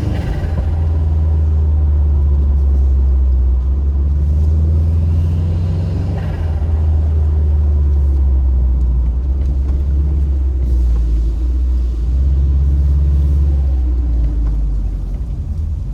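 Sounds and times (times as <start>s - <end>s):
car engine low rumble: 0.0s - 15.9s.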